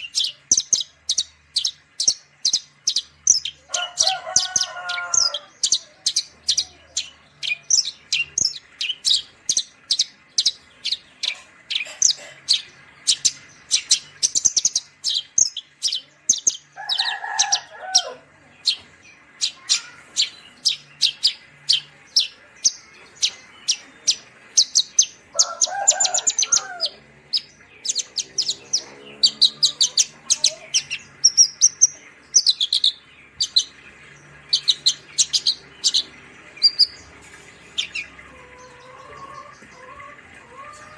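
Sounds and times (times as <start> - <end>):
bird chirping fast high chirps: 0.0 - 39.6.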